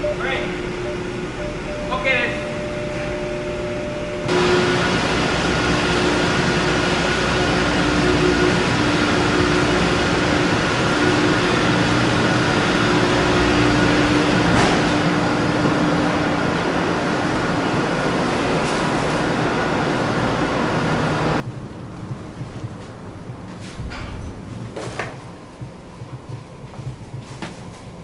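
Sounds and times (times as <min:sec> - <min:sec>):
ship ventilation fans and engines: 0:00.0 - 0:28.0
steady hums: 0:00.0 - 0:28.0.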